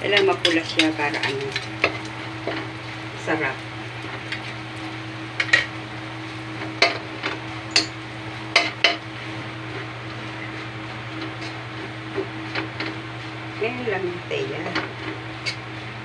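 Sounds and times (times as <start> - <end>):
light sizzle: 0.0 - 16.0.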